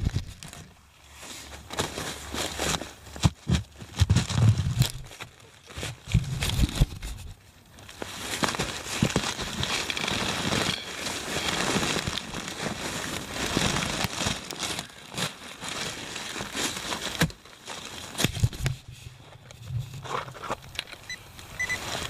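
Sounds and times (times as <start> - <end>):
soil crunching and scraping: 0.0 - 22.0.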